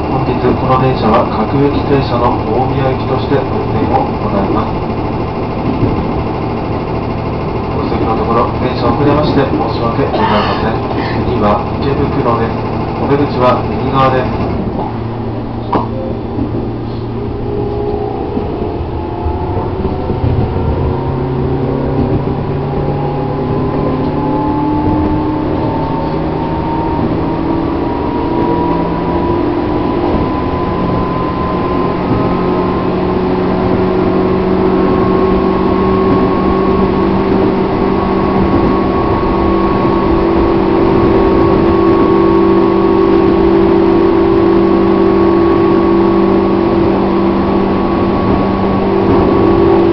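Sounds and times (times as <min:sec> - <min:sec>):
train motor whine: 0:00.0 - 0:49.9
wheels rumbling on rail: 0:00.0 - 0:49.9.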